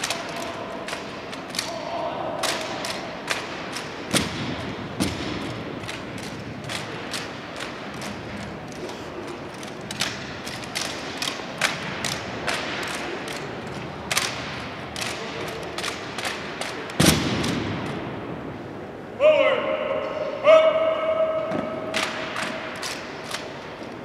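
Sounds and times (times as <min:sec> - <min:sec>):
rifles slapping into gloved hands: 0:00.0 - 0:18.0, 0:21.9 - 0:23.9.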